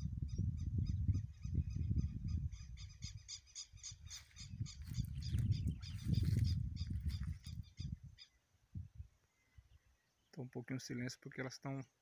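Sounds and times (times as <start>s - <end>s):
wind buffeting the microphone: 0.0s - 9.8s
bird chirping: 0.3s - 11.0s.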